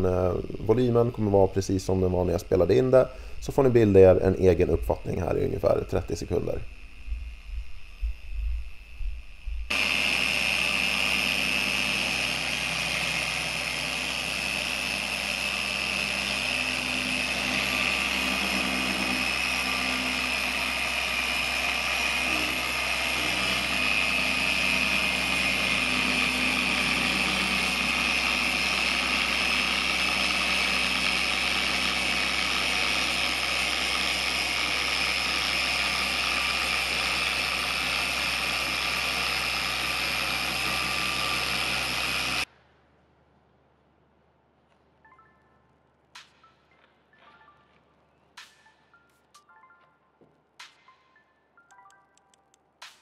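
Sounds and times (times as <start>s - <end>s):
car polisher whining: 0.0s - 42.5s.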